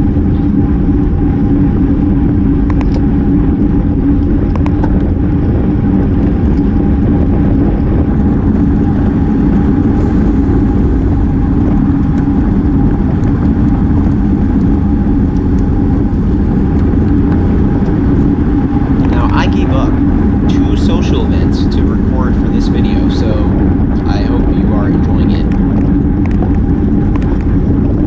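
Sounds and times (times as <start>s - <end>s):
constant hum: 0.0s - 28.0s
road noise: 0.0s - 28.0s
wind rush: 0.0s - 28.0s.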